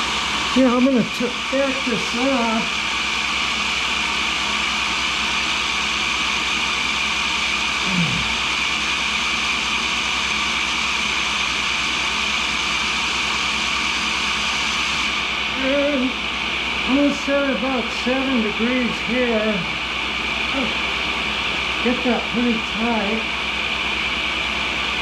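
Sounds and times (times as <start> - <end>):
grinder motor whirring: 0.0 - 24.8.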